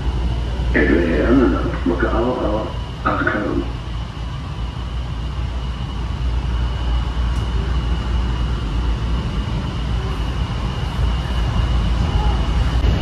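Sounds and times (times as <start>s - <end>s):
high-pitched whine: 0.0s - 13.0s
train low rumble: 0.0s - 13.0s.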